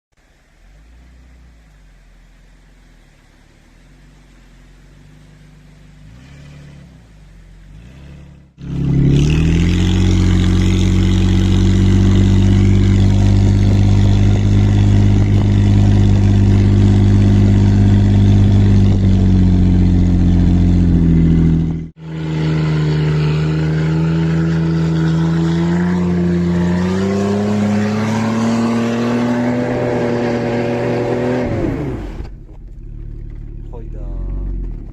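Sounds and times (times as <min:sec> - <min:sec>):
car engine and exhaust: 0:00.1 - 0:34.9.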